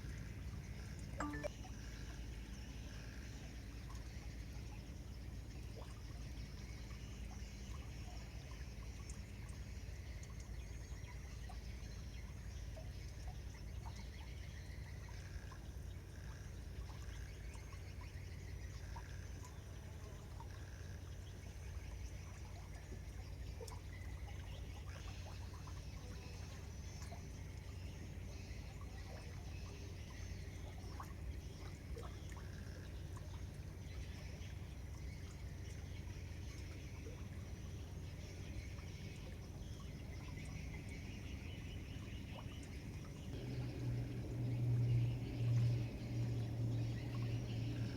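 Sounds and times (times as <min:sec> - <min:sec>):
water lapping and trickling: 0:00.0 - 0:47.9
faint clicks and chirps: 0:00.1 - 0:01.5, 0:08.5 - 0:47.9.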